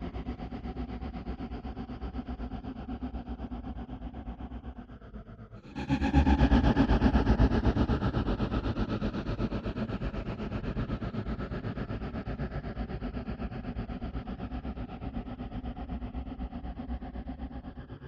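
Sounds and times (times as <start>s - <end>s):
low throbbing drone: 0.0s - 18.0s.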